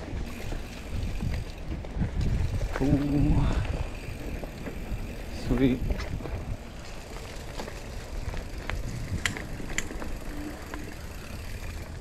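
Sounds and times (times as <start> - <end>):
bike rattles and clicks: 0.0 - 12.0
bike tyres rumbling on dirt: 0.0 - 12.0.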